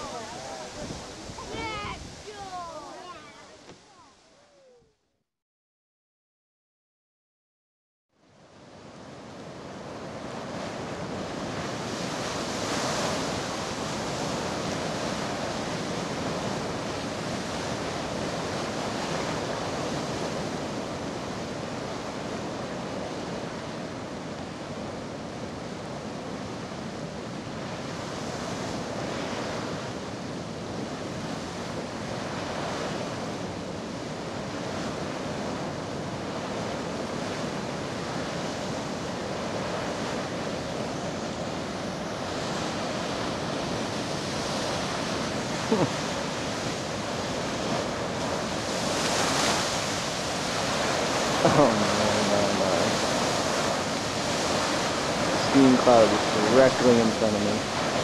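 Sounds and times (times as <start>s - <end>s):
wind on microphone: 0.0s - 3.9s, 8.7s - 58.0s
geyser splashing and venting steam: 0.0s - 4.0s, 9.1s - 58.0s.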